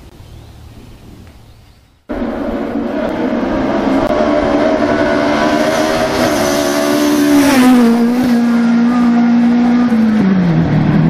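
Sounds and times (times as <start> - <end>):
rally car engine revving past: 2.1 - 11.0.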